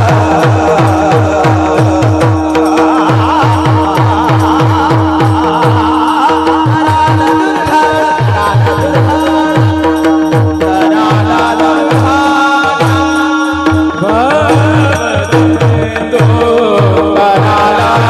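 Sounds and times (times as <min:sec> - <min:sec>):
devotional singing: 0:00.0 - 0:18.0.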